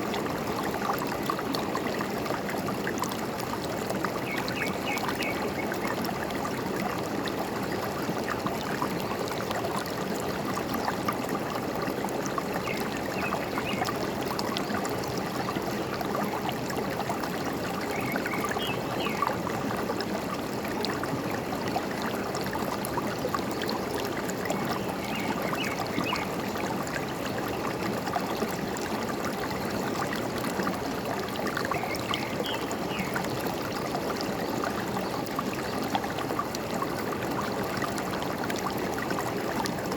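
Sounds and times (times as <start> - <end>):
stream gurgling: 0.0 - 39.9.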